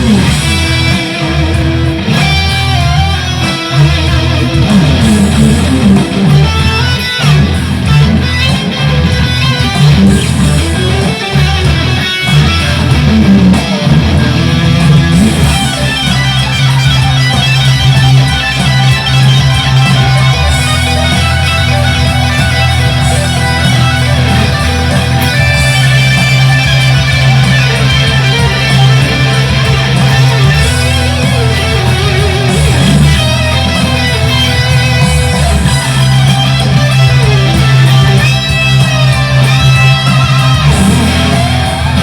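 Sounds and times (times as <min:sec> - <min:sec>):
electric guitar playing: 0:00.0 - 0:42.0.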